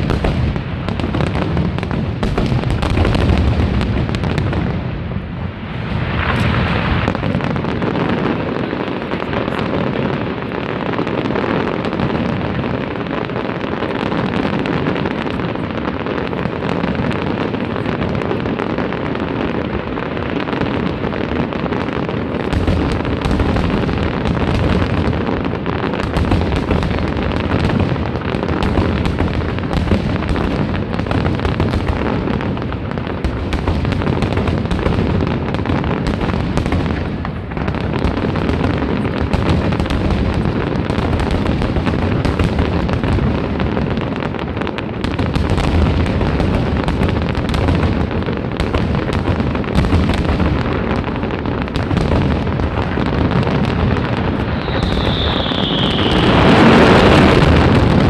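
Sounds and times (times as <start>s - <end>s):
fireworks bangs and booms: 0.0s - 58.0s.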